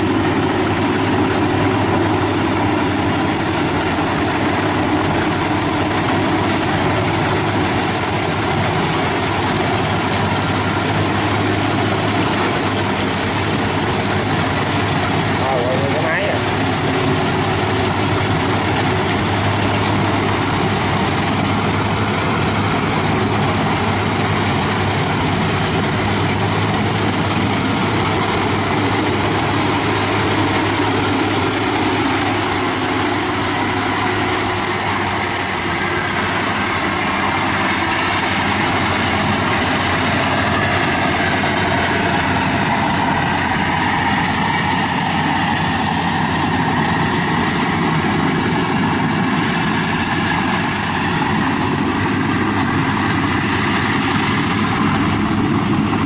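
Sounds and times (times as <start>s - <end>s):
combine harvester humming: 0.0s - 56.0s.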